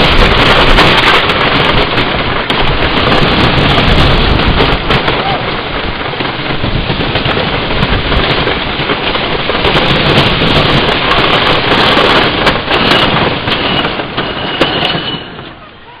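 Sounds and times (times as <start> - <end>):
roller coaster rattling on track: 0.0 - 16.0.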